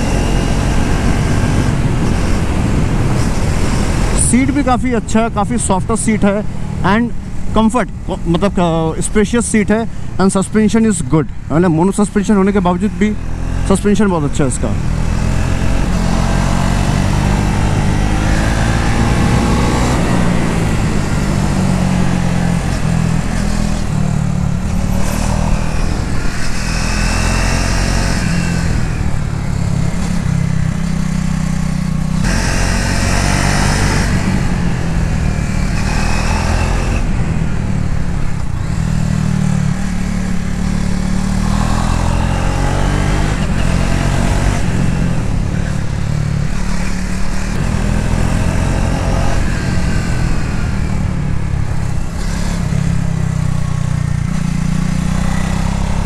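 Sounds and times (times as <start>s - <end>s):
motorcycle engine revving: 0.0s - 7.1s, 11.9s - 56.0s.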